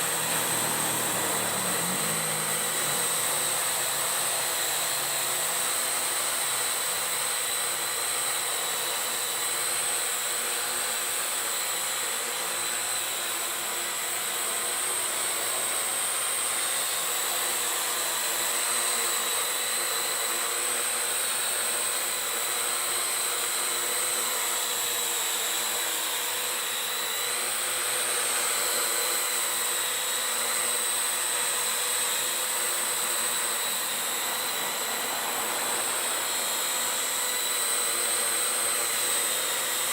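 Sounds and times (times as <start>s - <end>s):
drone motors whining: 0.0s - 9.8s, 10.9s - 39.9s.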